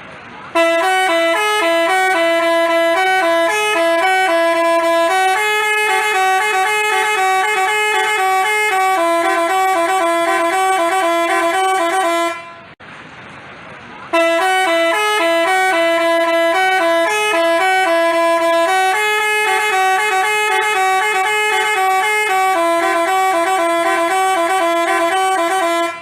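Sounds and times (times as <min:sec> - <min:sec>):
bus horn playing a tune: 0:00.4 - 0:12.8, 0:14.1 - 0:26.0.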